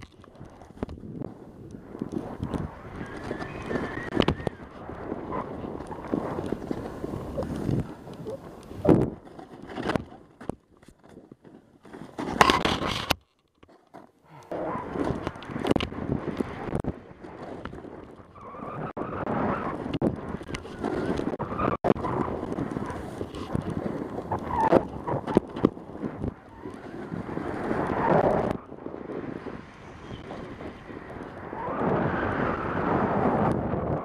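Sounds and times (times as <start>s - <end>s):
wind buffeting microphone: 0.0s - 13.2s, 14.3s - 34.0s
snowboard carving through snow: 0.5s - 10.0s, 14.5s - 34.0s.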